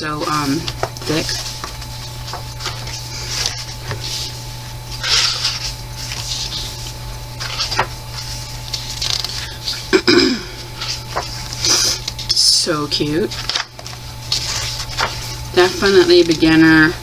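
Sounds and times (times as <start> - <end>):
pages turning: 0.2 - 9.9, 10.8 - 12.4, 13.1 - 16.6.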